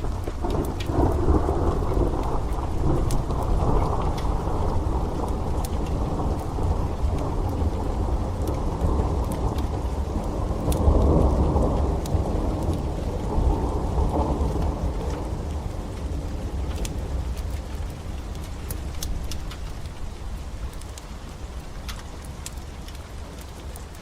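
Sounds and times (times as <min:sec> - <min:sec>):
heavy rain: 0:00.0 - 0:24.0
wood fire crackling: 0:00.0 - 0:24.0.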